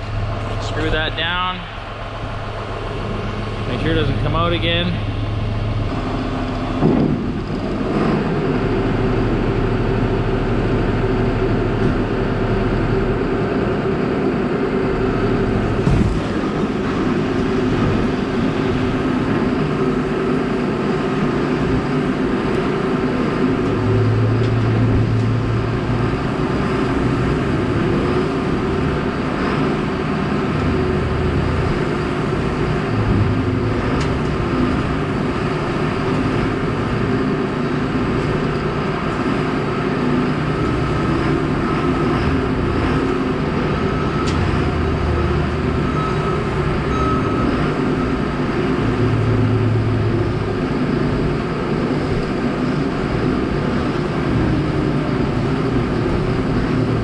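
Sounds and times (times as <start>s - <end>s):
farm machinery droning: 0.0s - 57.0s.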